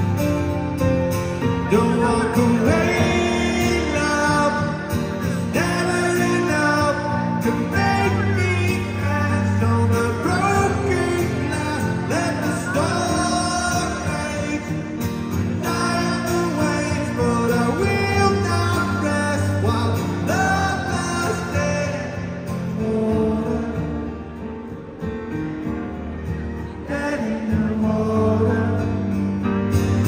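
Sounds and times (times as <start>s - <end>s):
strummed acoustic guitar: 0.0s - 30.0s
man singing: 1.4s - 24.4s, 26.6s - 29.5s.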